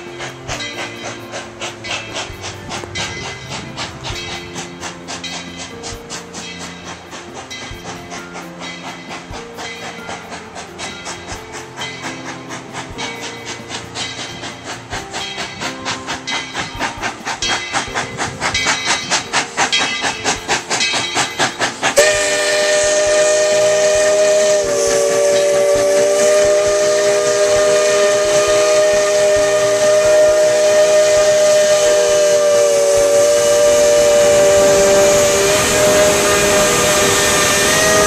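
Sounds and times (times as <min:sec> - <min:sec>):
steam locomotive chuffing: 0:00.0 - 0:38.0
steam whistle chord: 0:00.0 - 0:38.0.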